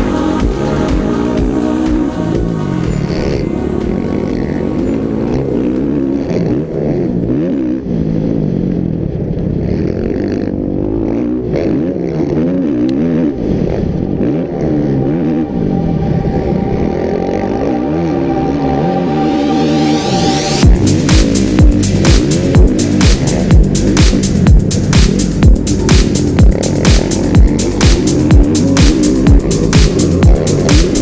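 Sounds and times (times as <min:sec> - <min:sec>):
motorbike engine revving: 0:00.0 - 0:31.0.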